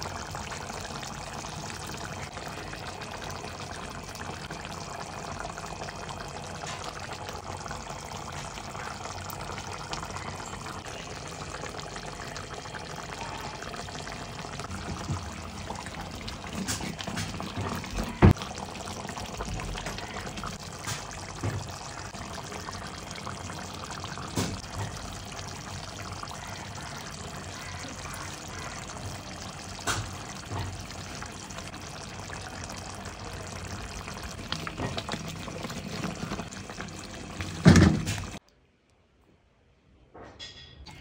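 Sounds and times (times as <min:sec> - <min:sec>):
curry bubbling in a pan: 0:00.0 - 0:38.4.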